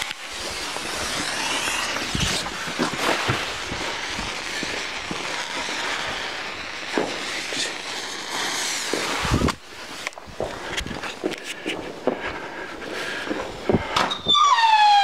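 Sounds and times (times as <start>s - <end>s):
firework fizzing hiss: 0.0s - 13.9s
firework crackles and pops: 0.0s - 15.0s.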